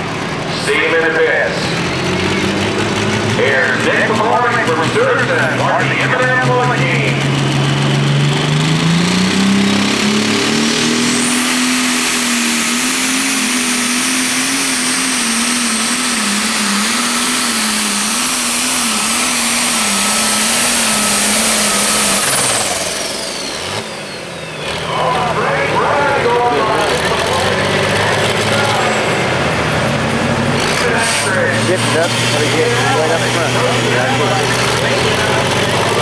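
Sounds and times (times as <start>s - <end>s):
diesel engine at full throttle: 0.0s - 36.0s.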